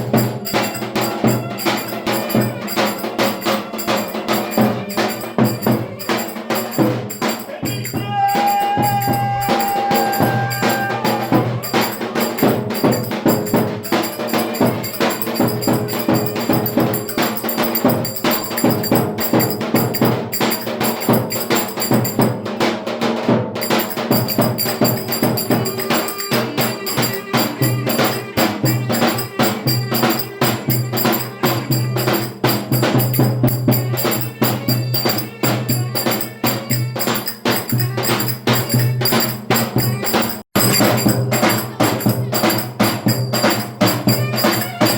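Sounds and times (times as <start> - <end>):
folk dance music with percussion: 0.0 - 44.9.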